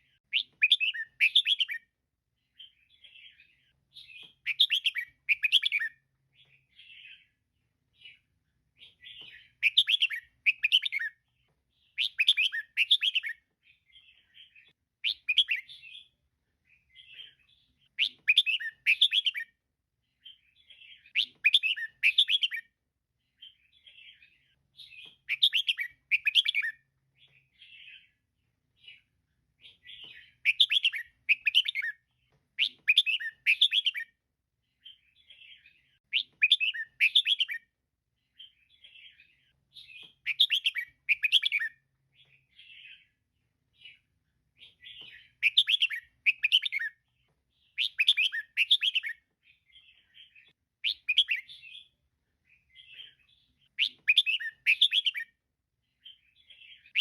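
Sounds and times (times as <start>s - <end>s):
soft bird chirps: 0.0s - 57.0s.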